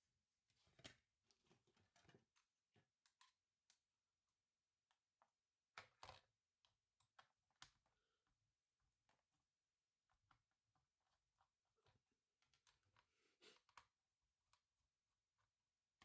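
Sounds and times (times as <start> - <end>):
faint small clicks and taps: 0.5 - 16.0.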